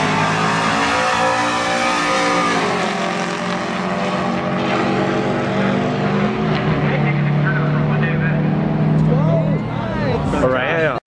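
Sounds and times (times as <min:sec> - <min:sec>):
engines revving: 0:00.0 - 0:11.0.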